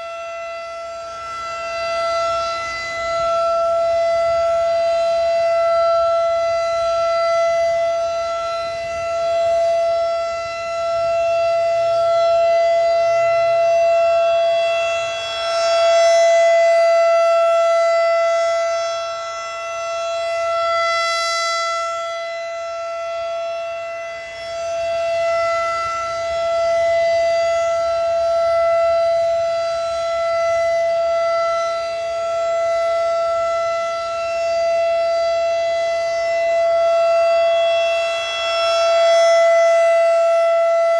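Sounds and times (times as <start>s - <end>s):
rotating warning siren tone: 0.0s - 40.9s.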